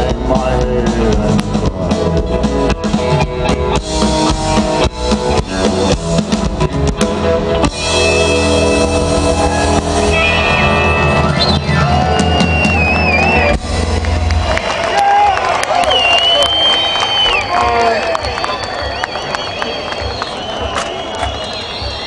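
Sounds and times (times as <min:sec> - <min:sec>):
live country band: 0:00.0 - 0:22.0.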